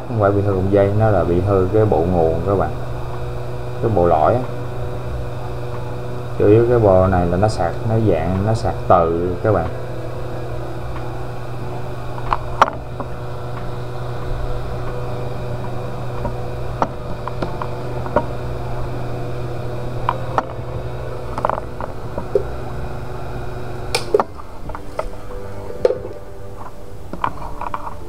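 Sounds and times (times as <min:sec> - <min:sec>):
hot-air gun blower humming: 0:00.0 - 0:28.0.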